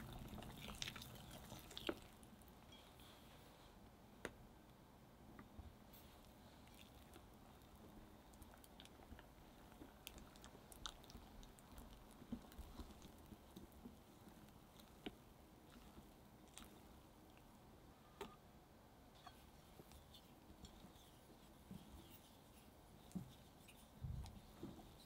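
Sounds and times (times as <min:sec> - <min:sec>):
soft squishing of batter: 0:00.0 - 0:25.0.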